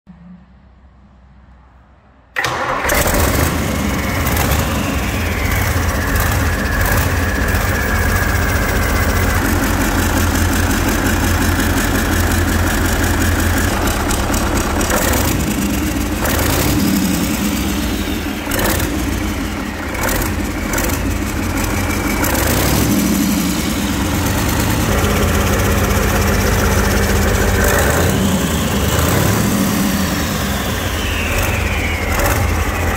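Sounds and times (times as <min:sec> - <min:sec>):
diesel engine starting and running: 0:02.3 - 0:32.9.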